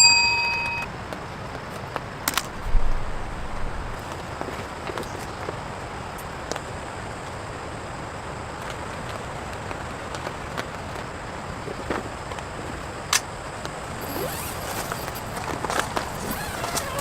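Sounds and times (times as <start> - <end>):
steady rain hiss: 1.0 - 17.0.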